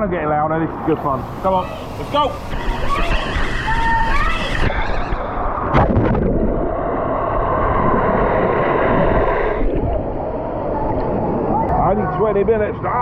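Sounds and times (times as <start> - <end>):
water rushing and splashing: 0.6 - 11.8.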